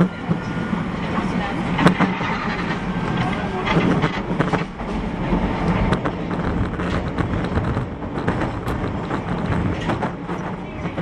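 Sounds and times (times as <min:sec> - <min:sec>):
subway car wheels rumbling: 0:00.0 - 0:11.0
wheels clicking on track: 0:00.0 - 0:11.0.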